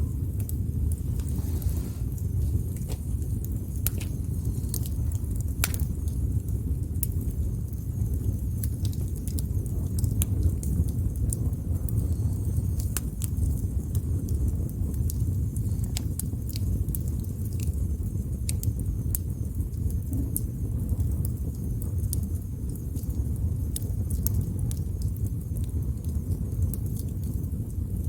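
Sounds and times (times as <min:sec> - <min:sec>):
burning wood crackling and popping: 0:00.0 - 0:28.0
low rumble of flames: 0:00.0 - 0:28.0.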